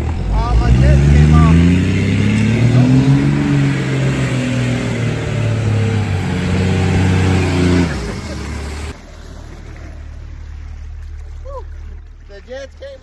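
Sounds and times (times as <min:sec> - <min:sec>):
diesel pickup engine pulling: 0:00.0 - 0:13.0.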